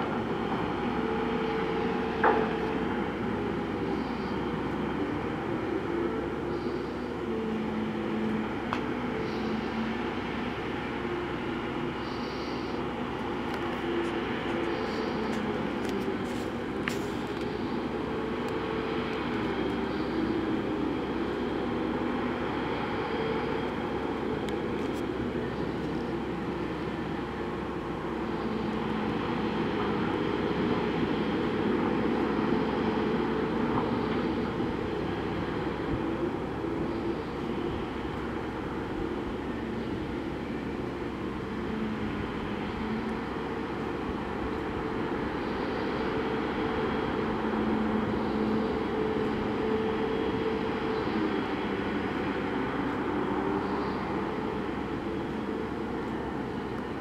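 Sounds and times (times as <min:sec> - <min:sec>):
heavy diesel engines droning: 0:00.0 - 0:57.0.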